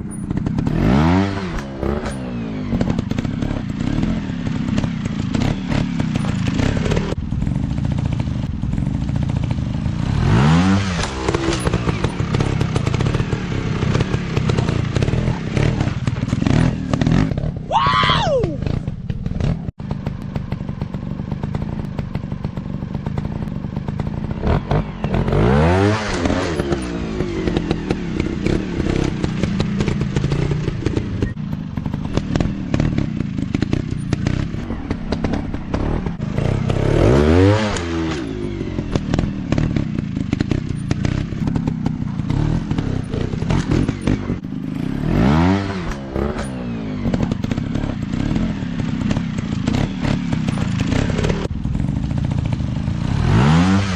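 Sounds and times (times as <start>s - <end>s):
trail motorcycles running: 0.0s - 53.9s.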